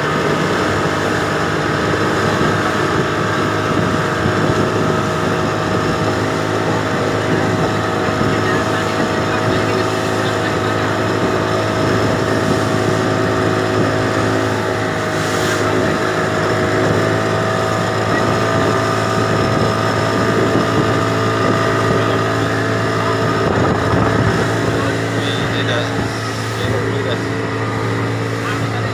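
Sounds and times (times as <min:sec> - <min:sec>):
boat engine running: 0:00.0 - 0:28.9.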